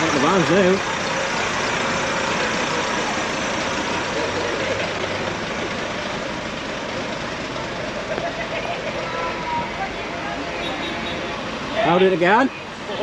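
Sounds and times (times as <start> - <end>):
diesel lorry engine running: 0.0 - 13.0.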